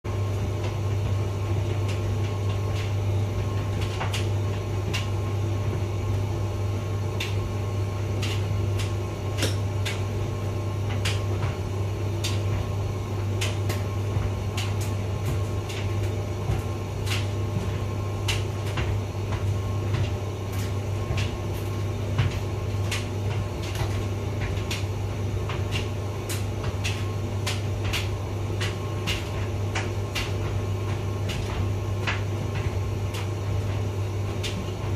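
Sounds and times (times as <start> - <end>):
tumble dryer humming: 0.0 - 34.9.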